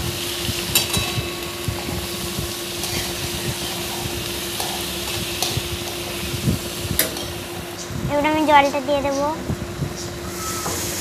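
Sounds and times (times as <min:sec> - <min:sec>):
steady low hum: 0:00.0 - 0:11.0
vegetables sizzling in oil: 0:00.0 - 0:11.0.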